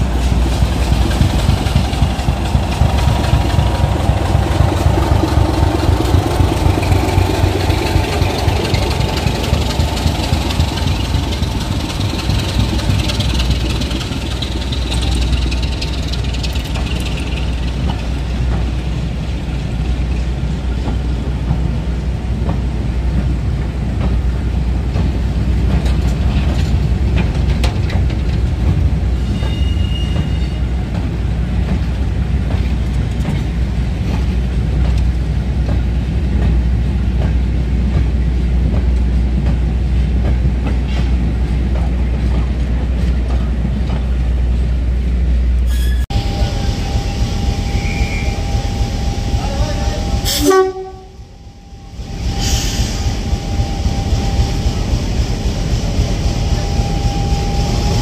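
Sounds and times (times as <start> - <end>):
deep diesel engine rumble: 0.0 - 29.1, 30.8 - 58.0
wheel and rail noise: 0.0 - 58.0.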